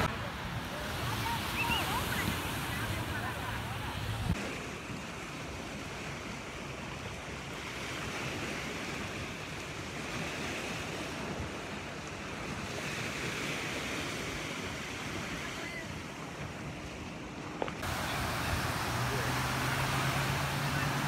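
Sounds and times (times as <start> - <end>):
small waves breaking on sand: 0.0 - 21.0.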